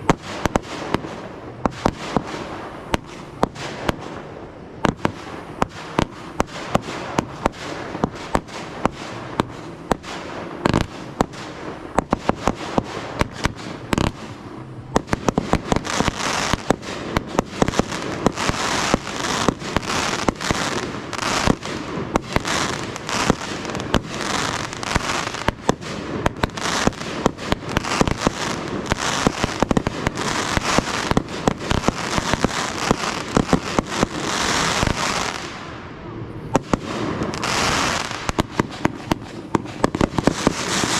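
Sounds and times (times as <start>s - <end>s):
fireworks bangs: 0.0s - 40.9s
fireworks crackling and hiss: 0.0s - 40.9s.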